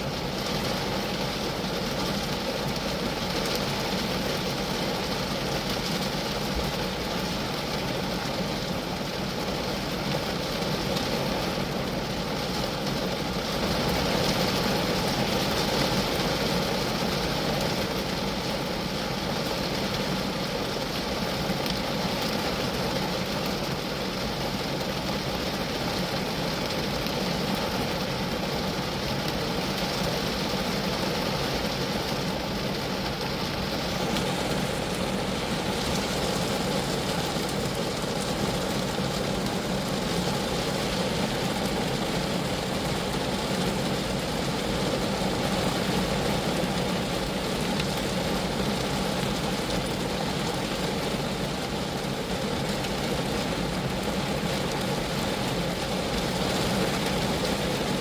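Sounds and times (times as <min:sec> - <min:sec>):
rain on a car body: 0:00.0 - 0:58.0.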